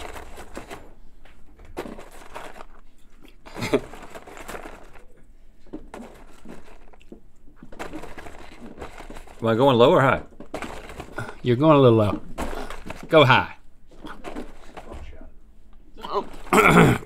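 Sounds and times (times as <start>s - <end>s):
popcorn boxes rustling: 0.0s - 17.0s.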